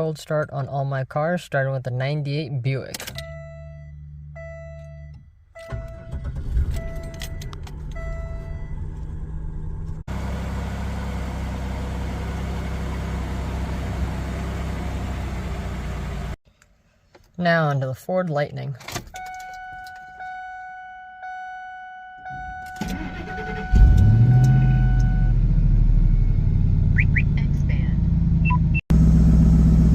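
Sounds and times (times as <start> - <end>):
car engine starting and idling: 2.9 - 16.4, 18.9 - 29.9.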